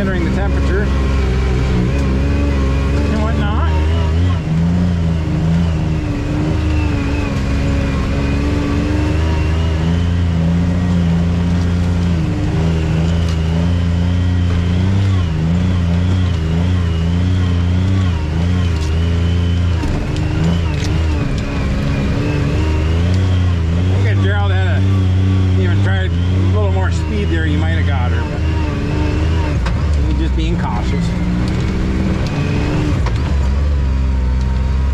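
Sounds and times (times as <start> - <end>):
off-road vehicle engine: 0.0 - 34.9.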